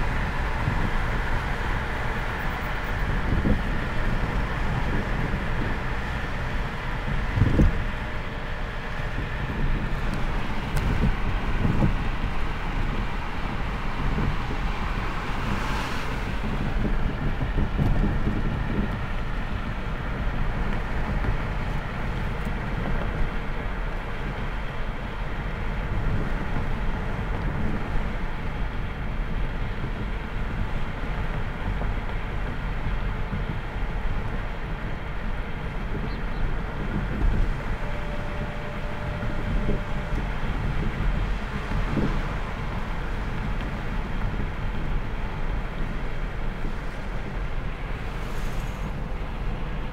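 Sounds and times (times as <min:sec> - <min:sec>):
car interior road rumble: 0:00.0 - 0:49.9.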